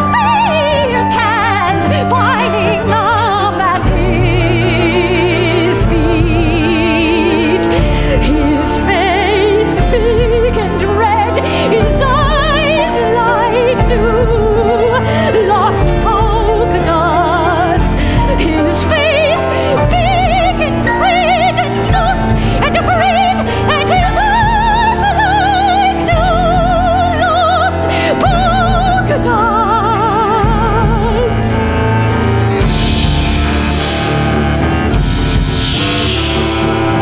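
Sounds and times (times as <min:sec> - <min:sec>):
soprano singing operatic line: 0:00.0 - 0:33.2
chamber ensemble playing: 0:00.0 - 0:37.0.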